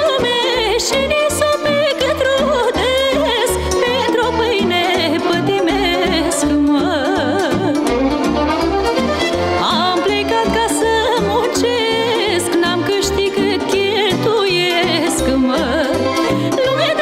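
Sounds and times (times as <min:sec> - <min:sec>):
folk melody with wide vibrato: 0:00.0 - 0:17.0
oom-pah accompaniment: 0:00.0 - 0:17.0.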